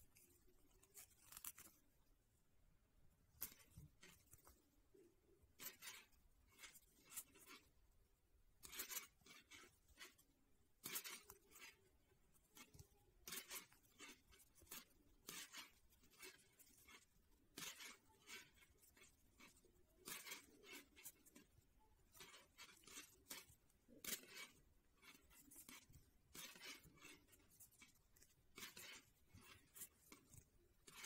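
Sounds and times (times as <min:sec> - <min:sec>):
wooden knitting needles clicking: 0:03.4 - 0:07.7, 0:08.6 - 0:31.0.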